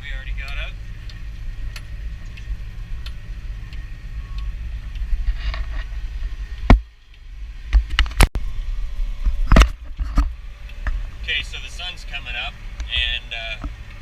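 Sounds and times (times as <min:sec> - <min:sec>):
tractor engine rumbling: 0:00.0 - 0:14.0.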